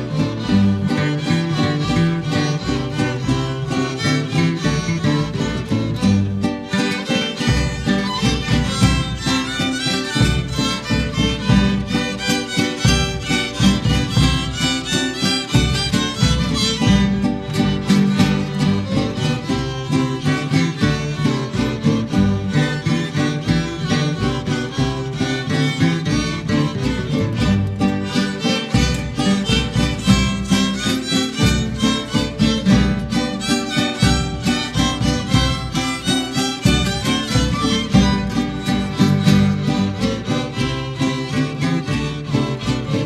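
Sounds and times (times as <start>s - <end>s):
guitar: 0.0s - 43.0s
violin: 0.0s - 43.0s.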